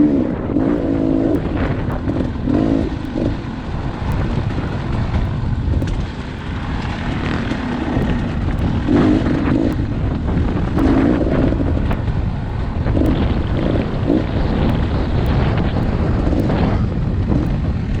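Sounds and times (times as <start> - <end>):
dirt bike engine running: 0.0 - 18.0
wind buffeting microphone: 0.0 - 18.0.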